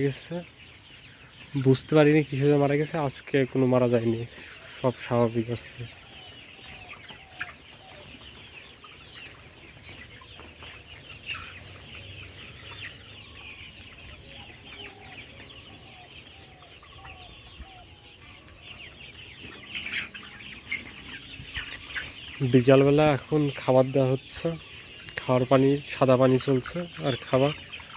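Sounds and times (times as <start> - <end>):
chicks peeping and chirping: 0.0 - 27.9.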